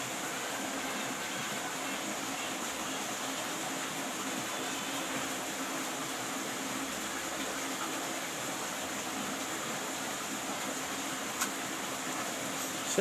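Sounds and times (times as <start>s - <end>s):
stream flowing: 0.0s - 13.0s.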